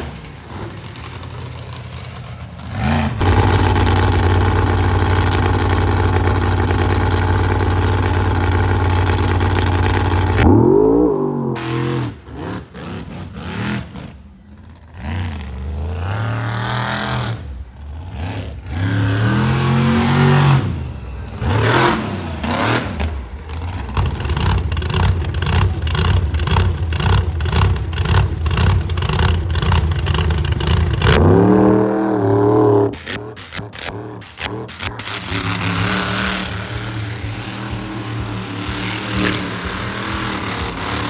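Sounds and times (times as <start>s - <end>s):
monster truck engine revving: 0.0s - 41.0s.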